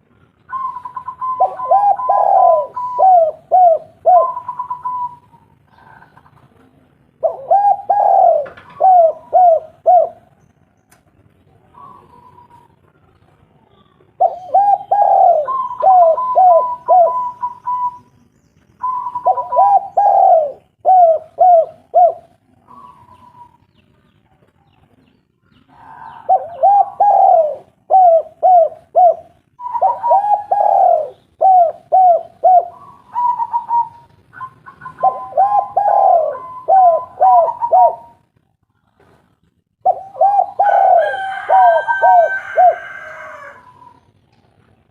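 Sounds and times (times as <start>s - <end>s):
doves cooing: 0.0s - 10.4s, 11.6s - 13.2s, 13.8s - 18.1s, 18.8s - 23.8s, 25.6s - 38.3s, 39.7s - 44.5s.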